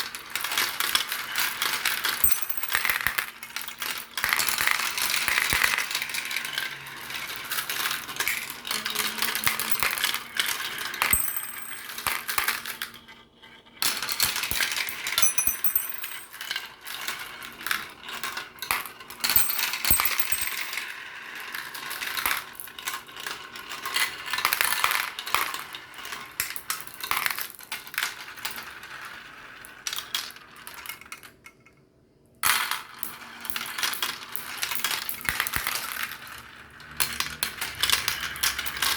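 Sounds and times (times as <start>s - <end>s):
marbles clattering down a run: 0.0s - 12.7s, 13.9s - 29.1s, 32.6s - 38.9s.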